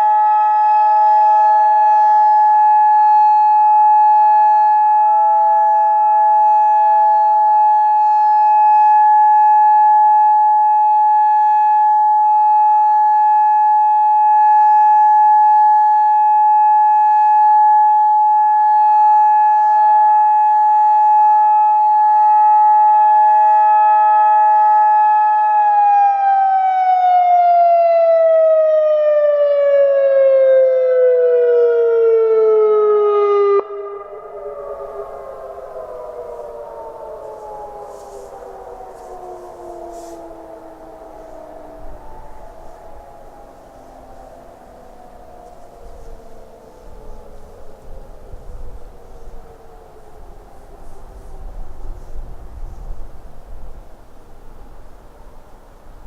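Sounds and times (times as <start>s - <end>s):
two-tone warning siren winding down: 0.0s - 54.1s.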